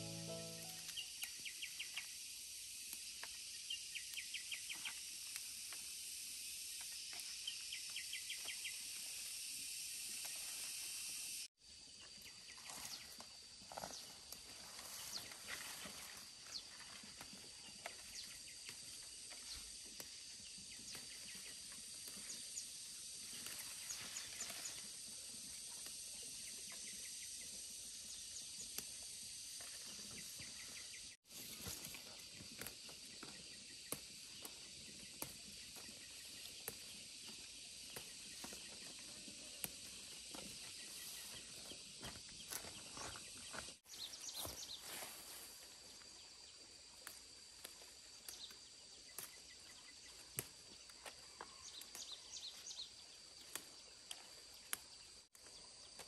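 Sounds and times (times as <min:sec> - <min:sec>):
high insect chorus: 0:00.0 - 0:56.0
rapid insect chirps: 0:00.0 - 0:56.0.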